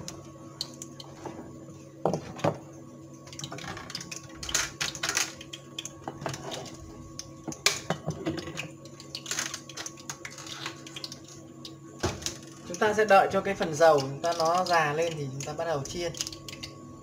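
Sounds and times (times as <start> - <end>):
oil crackling in a pan: 0.0 - 1.2, 3.1 - 13.0, 13.8 - 16.9
cooktop hum: 0.0 - 17.0.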